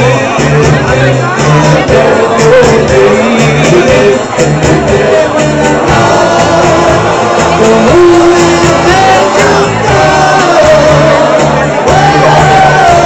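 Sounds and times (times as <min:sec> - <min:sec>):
faint crowd voices: 0:00.0 - 0:13.0
music with singer and bass: 0:00.0 - 0:13.0.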